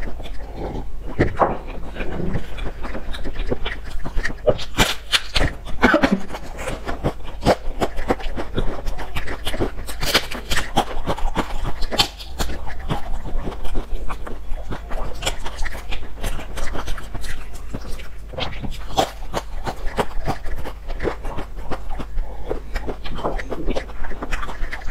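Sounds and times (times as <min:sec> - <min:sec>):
chewing crumbly pastry: 0:00.0 - 0:24.9.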